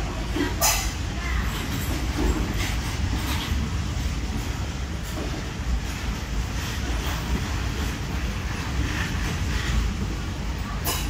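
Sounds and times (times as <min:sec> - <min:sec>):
train wheels rumbling on rail: 0:00.0 - 0:11.0
wheels clacking over rail joints: 0:00.0 - 0:11.0.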